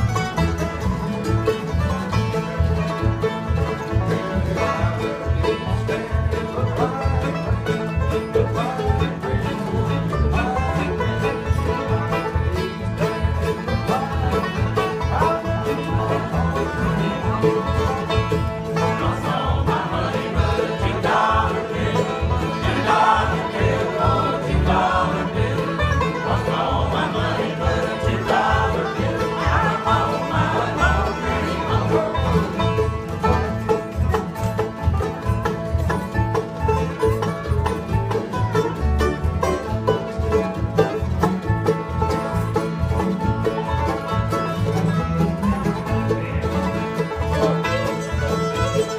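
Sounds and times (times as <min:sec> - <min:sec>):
acoustic guitars: 0:00.0 - 0:48.9
banjo: 0:00.0 - 0:48.9
fiddle: 0:00.0 - 0:48.9
mandolin: 0:00.0 - 0:48.9.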